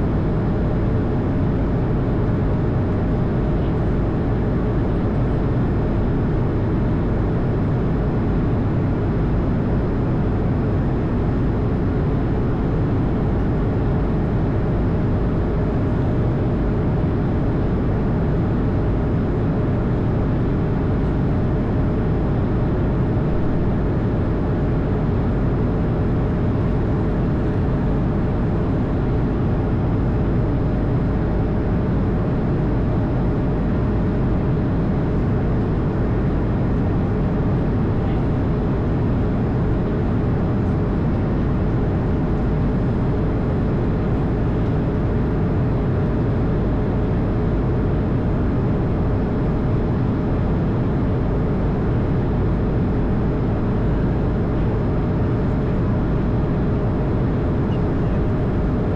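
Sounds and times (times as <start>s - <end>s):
cockpit engine and airflow rumble: 0.0s - 58.9s
faint constant hum: 0.0s - 58.9s.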